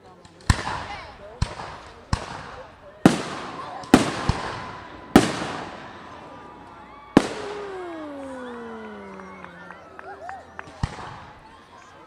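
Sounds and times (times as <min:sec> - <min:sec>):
fireworks booming: 0:00.5 - 0:10.0, 0:10.6 - 0:11.5.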